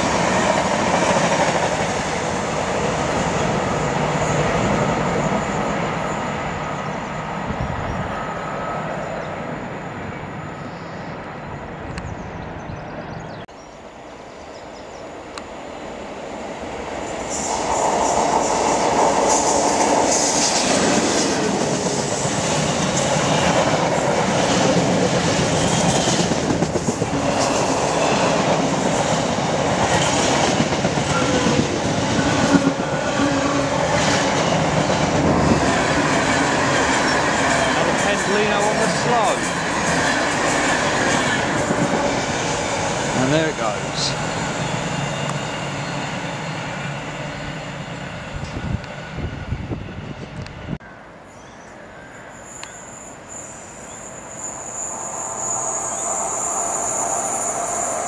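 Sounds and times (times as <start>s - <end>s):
freight train rolling past: 0.0s - 58.0s
train passing loudly: 0.0s - 58.0s.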